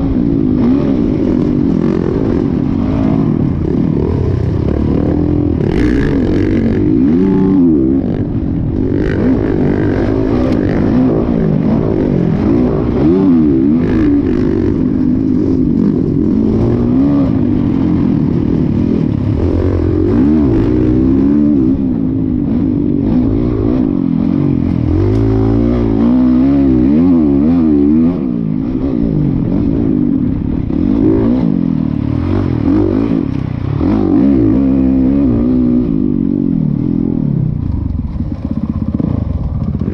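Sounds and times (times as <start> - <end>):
dirt bike engine revving: 0.0 - 37.2.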